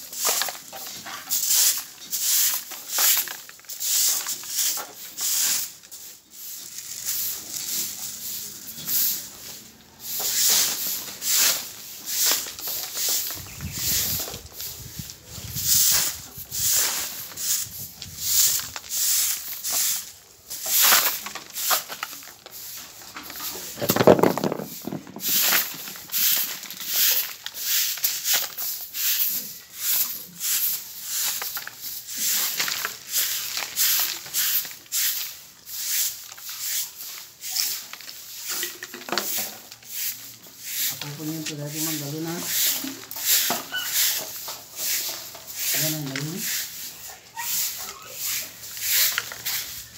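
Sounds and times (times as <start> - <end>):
broom sweeping concrete: 0.0 - 49.9.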